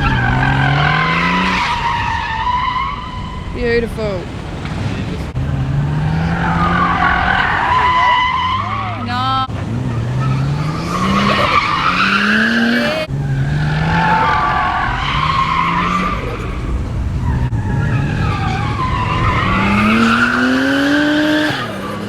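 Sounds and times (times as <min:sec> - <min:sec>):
car engine revving: 0:00.0 - 0:22.0
tyres squealing: 0:00.0 - 0:22.0.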